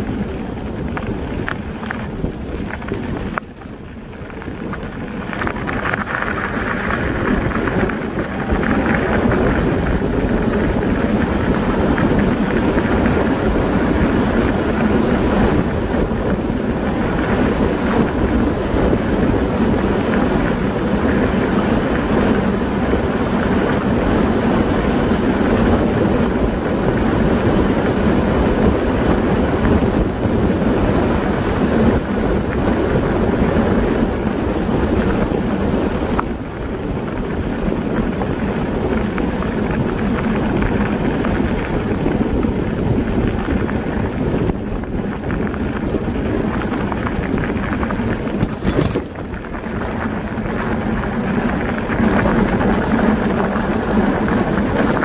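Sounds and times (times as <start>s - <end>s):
tyres rolling over gravel: 0.0s - 55.0s
wind buffeting microphone: 0.0s - 55.0s.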